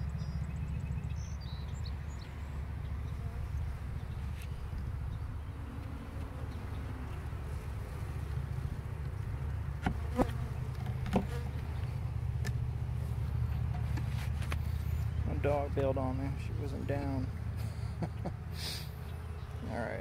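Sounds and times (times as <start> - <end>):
honeybees buzzing: 1.5 - 20.0.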